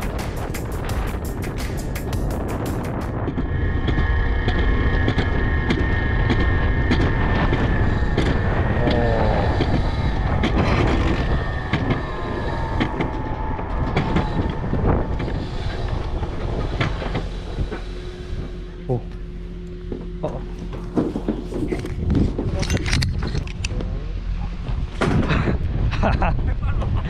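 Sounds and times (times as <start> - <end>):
high whine: 0.0 - 27.0
wheels rumbling on rail: 0.0 - 27.0.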